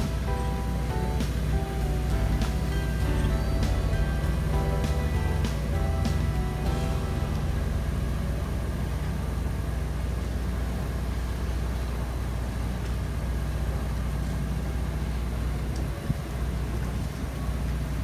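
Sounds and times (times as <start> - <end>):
vessel engine drone: 0.0 - 18.0.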